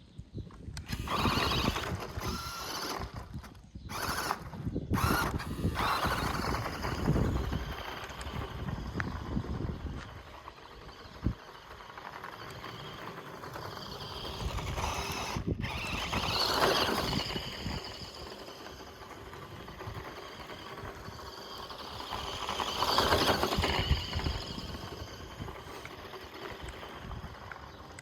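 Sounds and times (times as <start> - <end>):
tyres on loose dirt: 0.1 - 28.0
small electric motor whining: 0.7 - 28.0.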